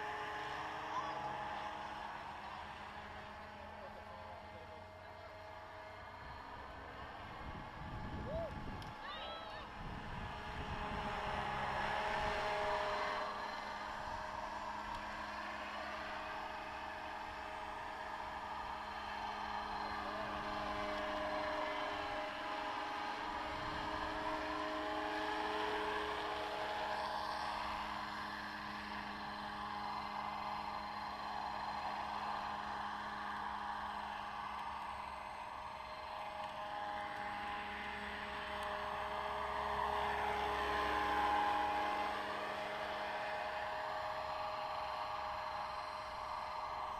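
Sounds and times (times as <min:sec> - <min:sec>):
model helicopter rotor whine: 0:00.0 - 0:46.9.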